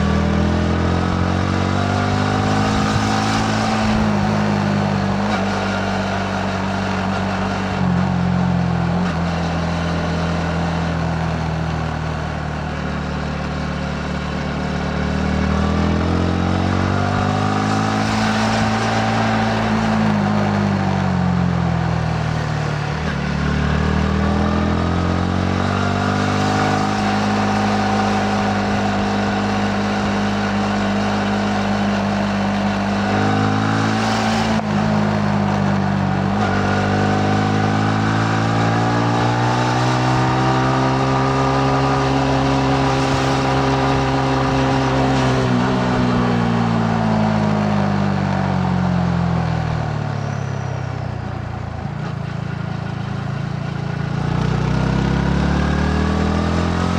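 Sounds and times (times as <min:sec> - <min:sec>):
motorcycle engine: 0:00.0 - 0:56.9
road and wind noise: 0:00.0 - 0:56.9.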